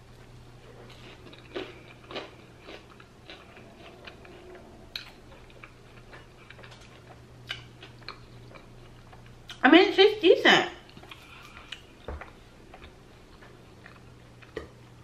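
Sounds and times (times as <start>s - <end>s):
low steady hum: 0.0s - 15.0s
person chewing crunchy bread: 0.2s - 9.6s, 10.9s - 15.0s.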